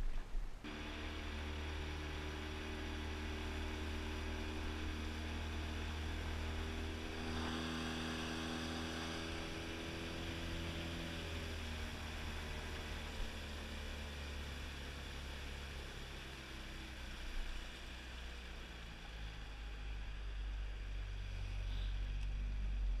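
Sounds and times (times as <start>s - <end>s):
outboard motor running: 0.7s - 23.0s.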